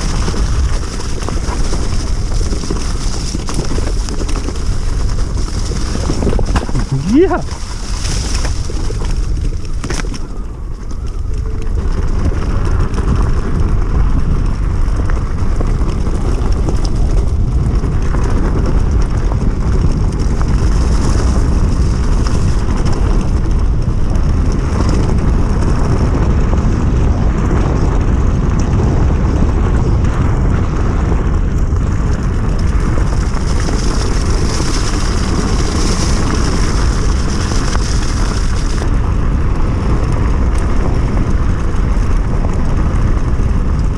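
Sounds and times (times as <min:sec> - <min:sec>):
wind and tyre noise: 0:00.0 - 0:43.9.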